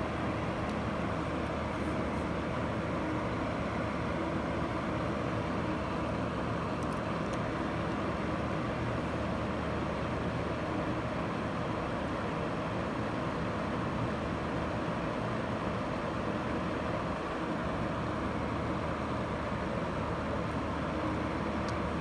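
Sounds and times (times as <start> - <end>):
steady background hum and hiss: 0.0 - 22.0.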